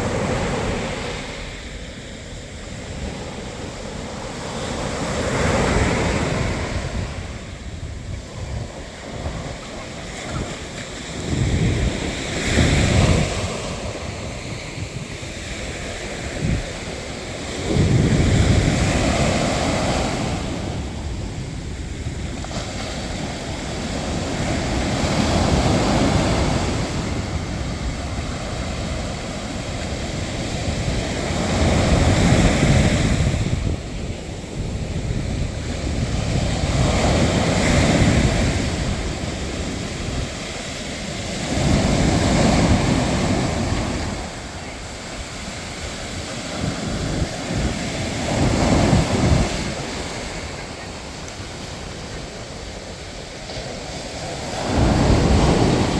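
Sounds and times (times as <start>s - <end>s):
sea waves breaking on shore: 0.0s - 55.9s.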